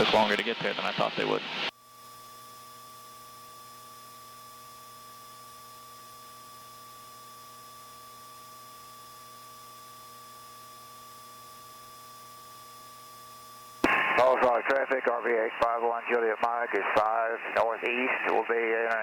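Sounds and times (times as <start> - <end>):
intercom electrical hum and hiss: 0.0 - 1.7, 2.7 - 19.0.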